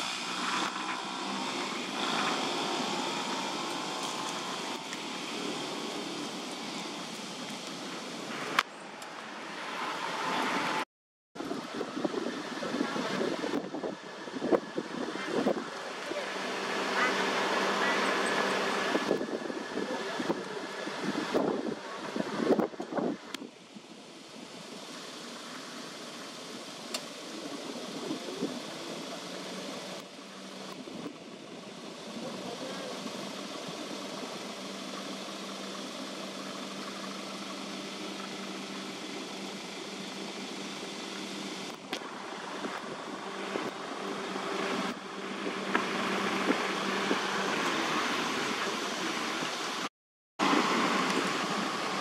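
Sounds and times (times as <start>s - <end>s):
low engine hum: 0.0s - 10.8s, 11.4s - 52.0s
steady background noise: 0.0s - 10.8s, 11.4s - 52.0s.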